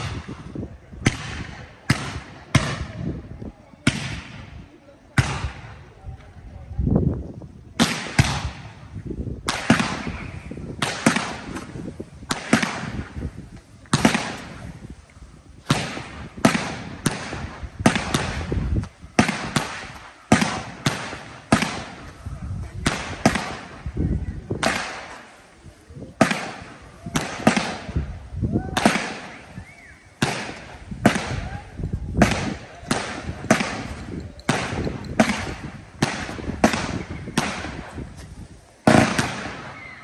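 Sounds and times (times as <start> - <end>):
fireworks bangs: 0.0 - 6.5, 7.7 - 40.0.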